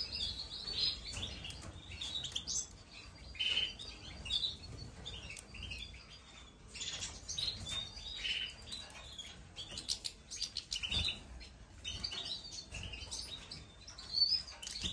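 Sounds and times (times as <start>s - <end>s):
finches chirping and twittering: 0.0s - 14.9s.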